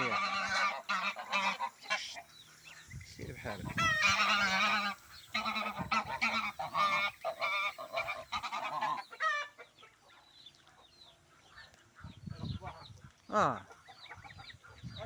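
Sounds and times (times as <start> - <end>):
farmyard birds honking: 0.0 - 15.0.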